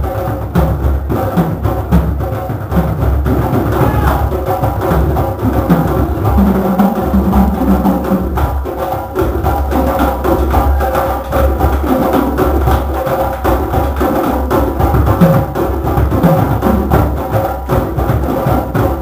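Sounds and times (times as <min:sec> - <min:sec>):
drum circle playing: 0:00.0 - 0:19.0.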